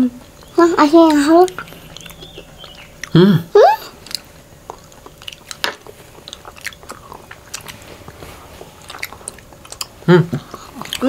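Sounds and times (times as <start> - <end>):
chewing with wet pops: 0.2 - 3.2, 3.8 - 11.0.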